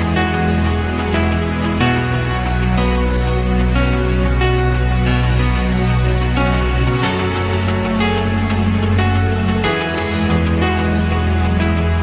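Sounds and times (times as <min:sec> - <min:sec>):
background music with low chords: 0:00.0 - 0:12.0.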